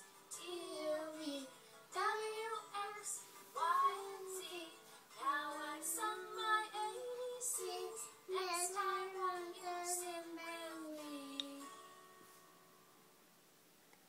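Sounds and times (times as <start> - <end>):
child singing: 0.4 - 11.7.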